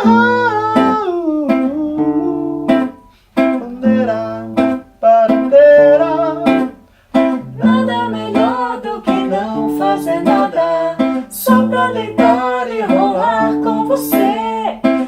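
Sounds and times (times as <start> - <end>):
acoustic guitar playing chords: 0.0 - 15.0.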